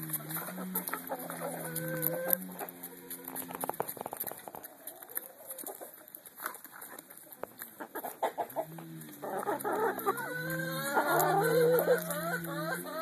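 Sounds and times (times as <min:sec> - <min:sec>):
hen clucking: 0:00.0 - 0:13.0
hens pecking in wooden trough: 0:00.0 - 0:13.0.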